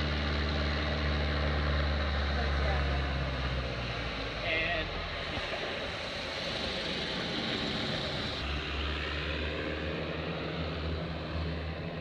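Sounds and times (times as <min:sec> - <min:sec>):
distant floatplane engine drone: 0:00.0 - 0:12.0.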